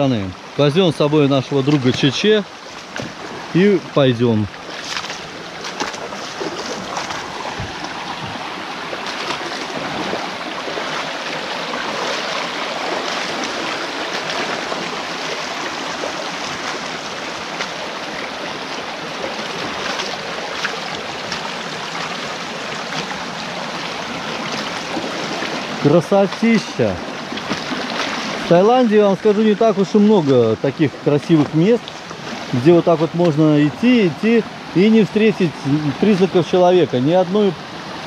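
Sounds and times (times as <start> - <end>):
stream rushing over stones: 0.0 - 38.0.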